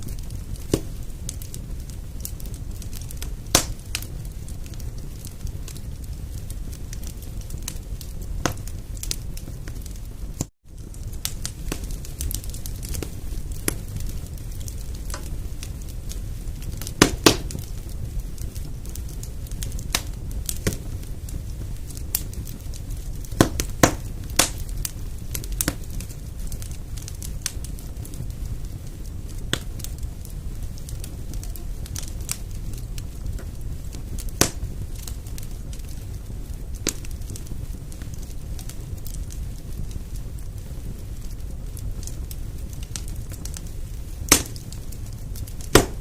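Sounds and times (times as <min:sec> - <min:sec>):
low rumble of flames: 0:00.0 - 0:46.0
sharp pops of burning wood: 0:00.0 - 0:46.0
wood fire crackling: 0:00.0 - 0:46.0.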